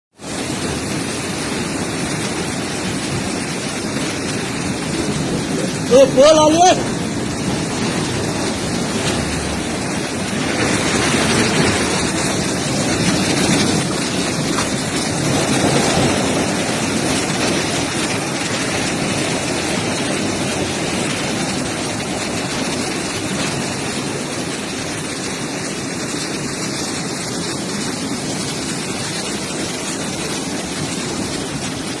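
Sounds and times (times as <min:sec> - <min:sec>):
floodwater rushing: 0:00.2 - 0:32.0.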